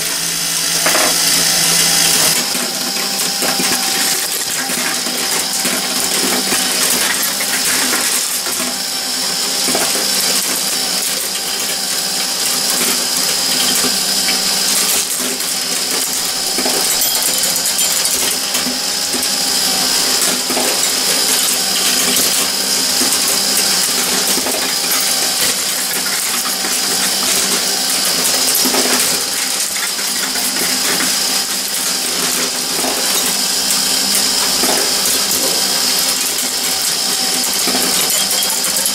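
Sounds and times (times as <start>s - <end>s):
machine mechanism running: 0.0s - 38.9s.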